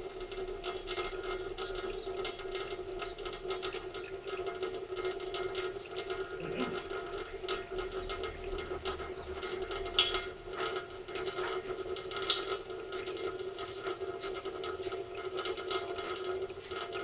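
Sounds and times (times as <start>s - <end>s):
water dripping into metal pan: 0.0s - 17.0s.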